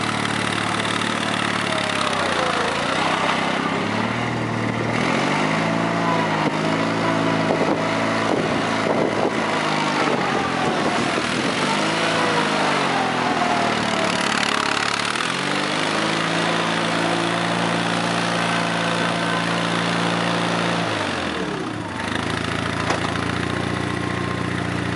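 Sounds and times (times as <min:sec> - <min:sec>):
loader engine running: 0:00.0 - 0:24.9.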